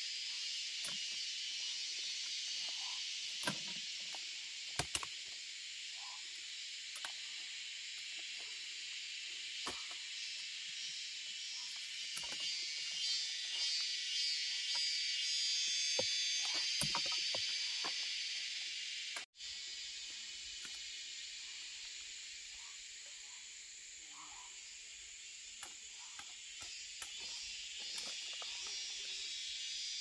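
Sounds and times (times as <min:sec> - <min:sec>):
high insect chorus: 0:00.0 - 0:30.0.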